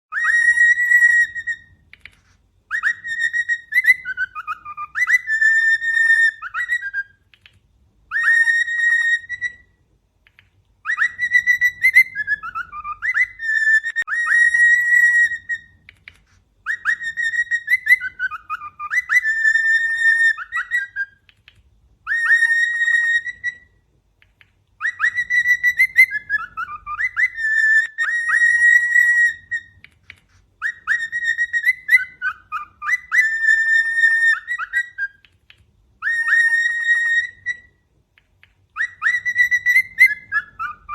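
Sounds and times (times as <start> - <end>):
cockatiel whistling a tune: 0.1 - 7.4, 8.1 - 9.8, 10.8 - 21.4, 22.0 - 40.9.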